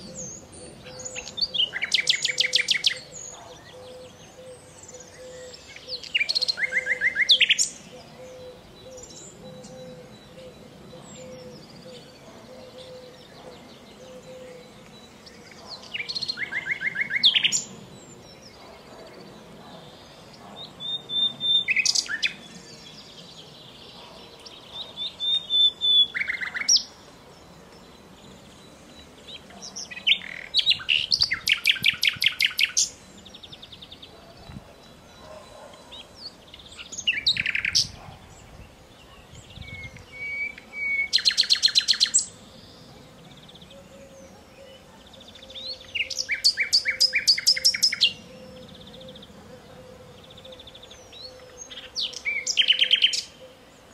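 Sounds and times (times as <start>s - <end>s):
nightingale singing: 0.0s - 53.9s.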